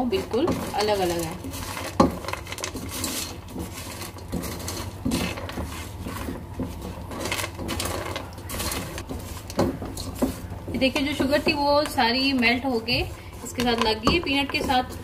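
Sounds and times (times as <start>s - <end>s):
nuts rattling against a pan: 0.0s - 15.0s
spatula scraping a pan: 0.0s - 15.0s.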